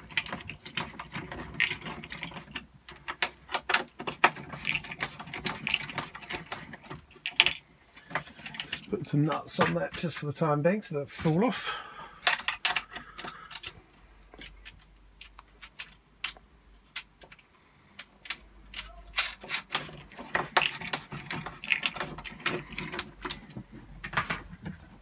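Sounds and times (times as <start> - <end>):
metal nuts and bolts clinking: 0.0 - 10.2, 14.4 - 25.0.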